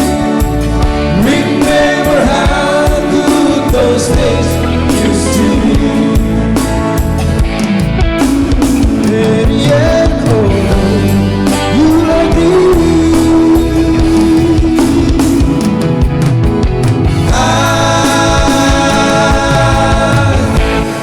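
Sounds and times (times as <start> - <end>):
man singing: 0.0 - 7.1, 8.8 - 16.2, 17.1 - 21.0
band playing pop-rock ballad: 0.0 - 21.0.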